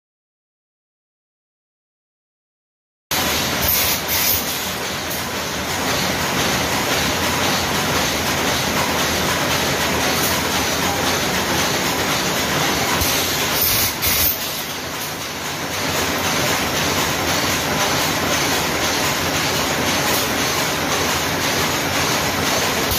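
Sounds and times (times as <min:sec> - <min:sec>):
workshop machinery rumbling: 0:03.1 - 0:22.9.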